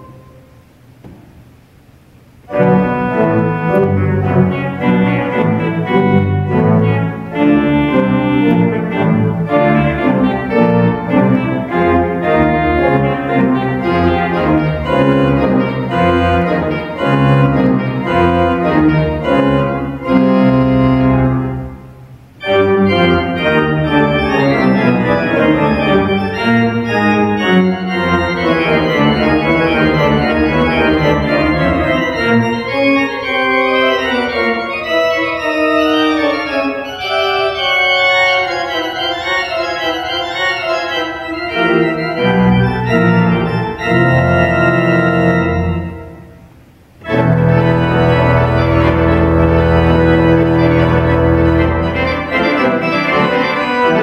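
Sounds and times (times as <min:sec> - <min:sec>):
pipe organ chords: 0:00.0 - 0:54.0
deep organ pedal bass: 0:02.5 - 0:46.3, 0:47.0 - 0:54.0.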